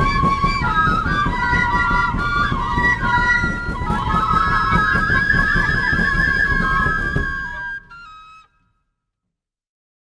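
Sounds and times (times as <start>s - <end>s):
drumming: 0.0s - 8.2s
wooden flutes playing folk melody: 0.0s - 8.8s.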